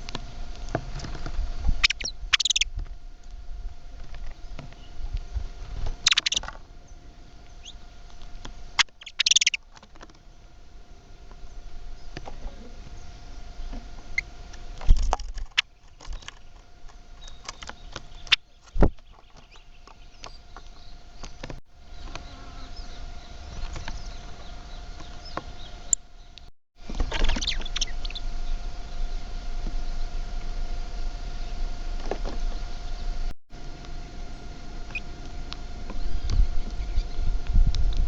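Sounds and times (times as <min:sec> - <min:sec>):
birds chirping: 0:00.0 - 0:02.8, 0:03.8 - 0:37.6.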